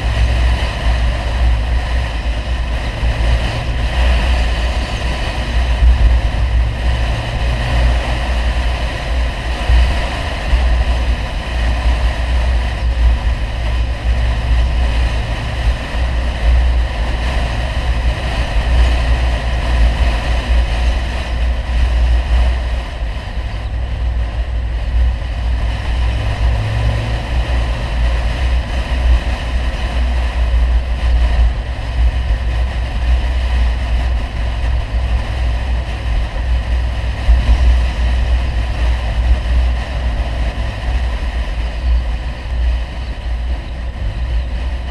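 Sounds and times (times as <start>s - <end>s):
five-cylinder engine droning: 0.0s - 44.9s.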